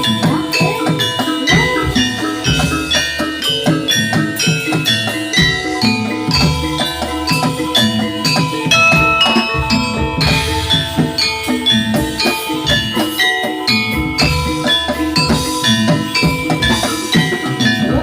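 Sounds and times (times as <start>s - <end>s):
metallophones and gongs struck: 0.0s - 18.0s.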